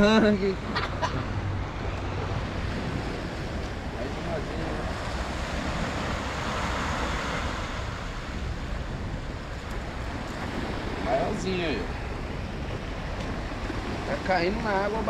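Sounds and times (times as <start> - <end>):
surf on rocky shore: 0.0 - 15.0
wind rumbling on microphone: 0.0 - 15.0.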